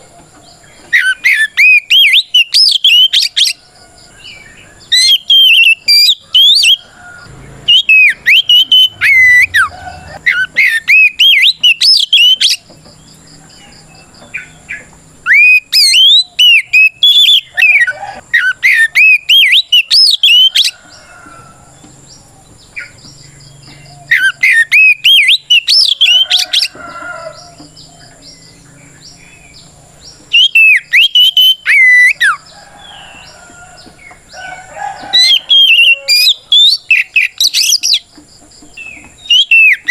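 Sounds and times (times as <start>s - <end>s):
magpie-robin whistled song: 0.6s - 6.9s, 7.6s - 20.8s, 22.7s - 34.4s, 35.0s - 38.1s, 38.7s - 39.9s.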